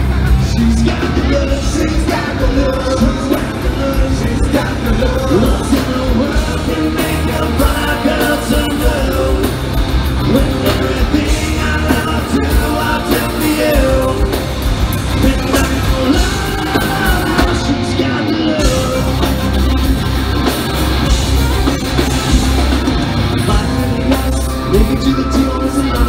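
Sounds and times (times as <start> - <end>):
live rock band playing: 0.0 - 26.0
person singing: 0.3 - 19.7, 22.0 - 26.0.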